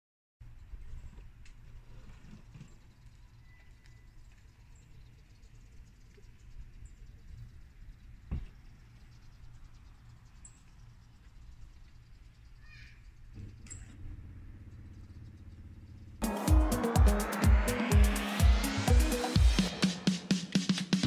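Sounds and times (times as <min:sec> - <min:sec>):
faint outdoor background sound: 0:00.4 - 0:21.0.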